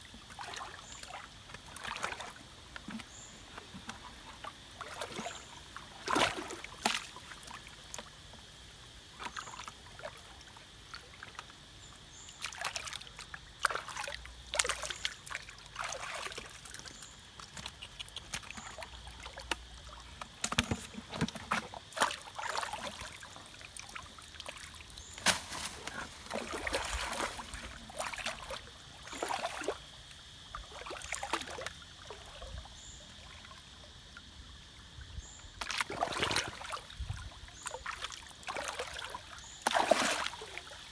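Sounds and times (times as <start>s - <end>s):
water splashing from wading: 0.2s - 8.1s, 12.4s - 32.6s, 35.6s - 40.9s.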